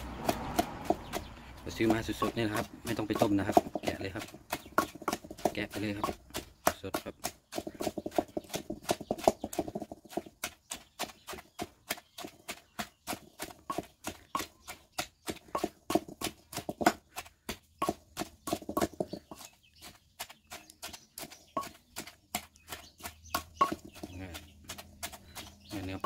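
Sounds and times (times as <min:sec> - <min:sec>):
pestle pounding in mortar: 0:00.0 - 0:26.0.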